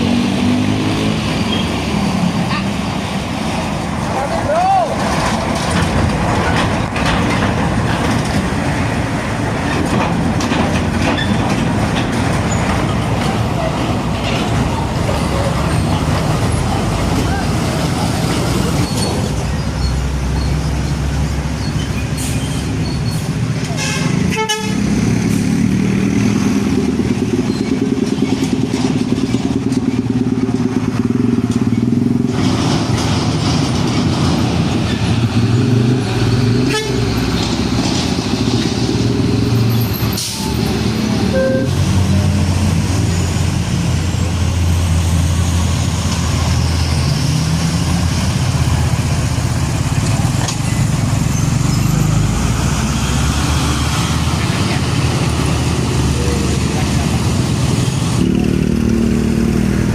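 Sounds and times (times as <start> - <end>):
diesel trucks passing: 0.0 - 59.9.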